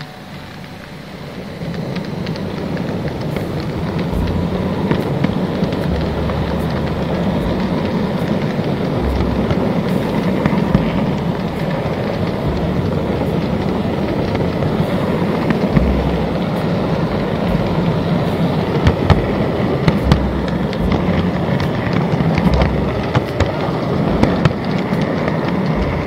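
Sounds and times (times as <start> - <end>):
model train motor rumble: 0.0 - 26.0
wheels clicking on rails: 0.0 - 26.0.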